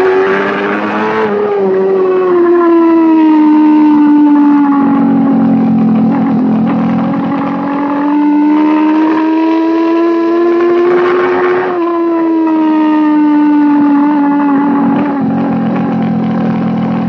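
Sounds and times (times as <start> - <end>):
racing motorcycle engine high revs: 0.0 - 17.0.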